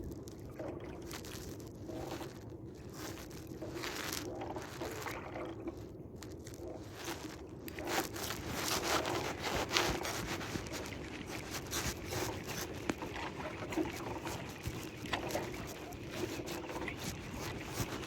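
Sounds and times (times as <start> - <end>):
scraping and clicking handling noises: 1.0 - 18.0.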